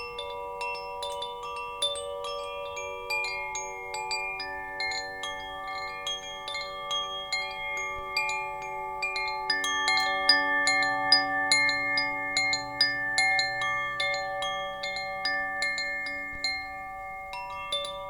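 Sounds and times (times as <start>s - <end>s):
wind chimes ringing: 0.0s - 18.0s.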